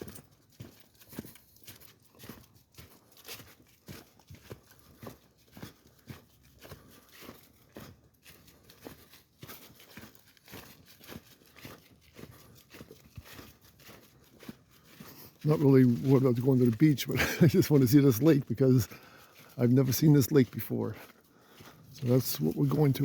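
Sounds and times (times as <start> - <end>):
footsteps crunching on trail: 0.0 - 23.0.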